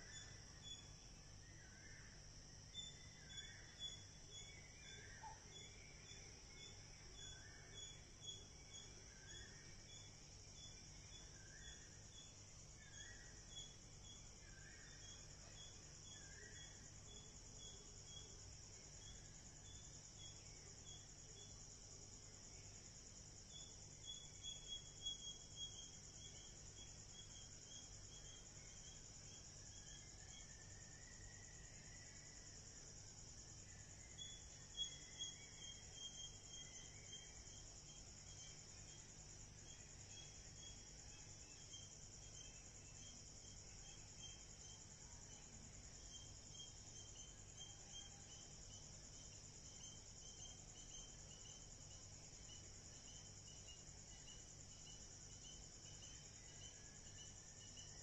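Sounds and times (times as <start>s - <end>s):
insect chorus chirping: 0.0s - 58.0s.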